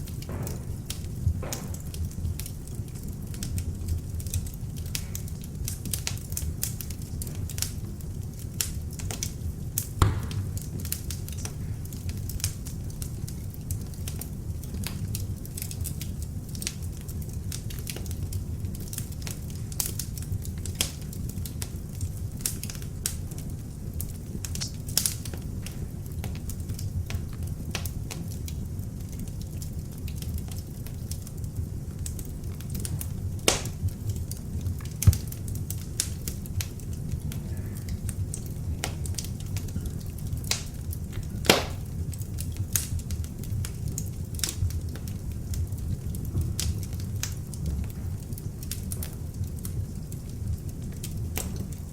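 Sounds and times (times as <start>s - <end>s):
log fire crackling: 0.0s - 51.9s.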